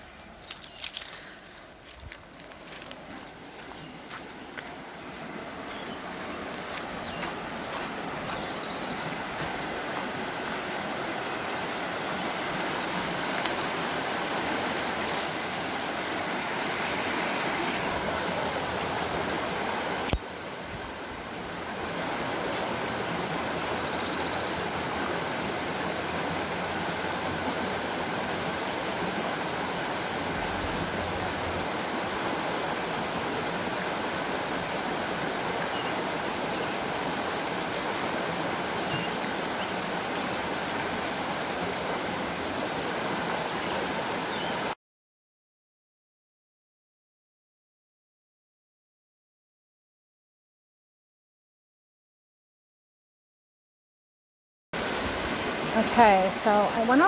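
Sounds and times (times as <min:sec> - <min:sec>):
creek water flowing: 0:00.0 - 0:44.8, 0:54.8 - 0:57.0.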